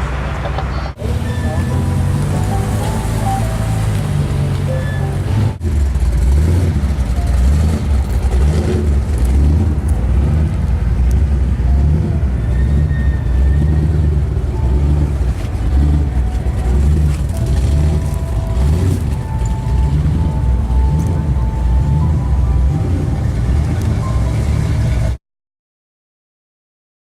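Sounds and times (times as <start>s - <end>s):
car engine droning: 0.0s - 25.2s.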